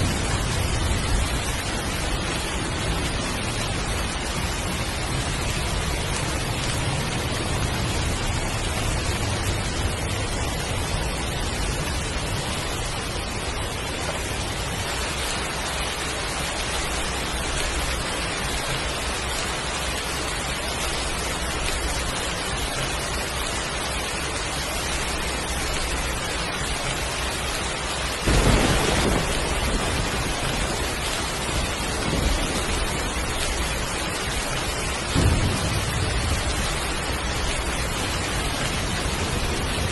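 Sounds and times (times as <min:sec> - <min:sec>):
heavy rain falling: 0:00.0 - 0:39.9
thunder clap and rumble: 0:00.0 - 0:39.9.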